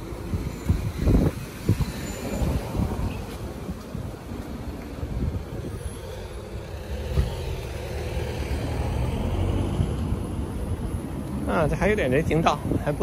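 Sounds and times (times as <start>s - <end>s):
vehicles driving past: 0.0s - 13.0s.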